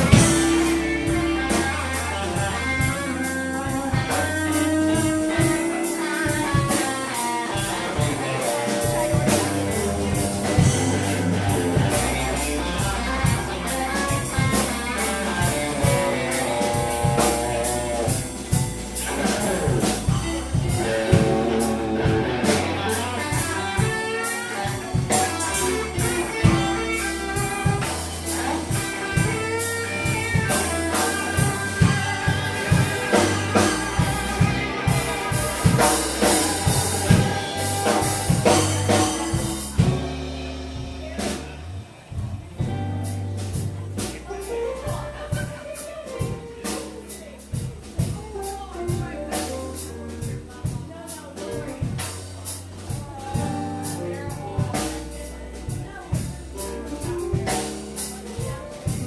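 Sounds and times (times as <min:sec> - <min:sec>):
bass: 0:00.0 - 0:59.0
drum kit: 0:00.0 - 0:59.0
electric guitar lead: 0:00.0 - 0:59.0.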